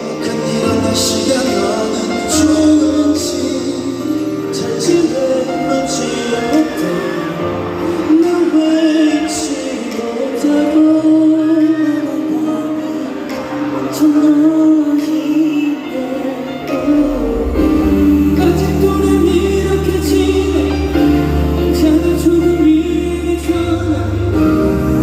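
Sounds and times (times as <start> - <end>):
live band accompaniment: 0.0 - 25.0.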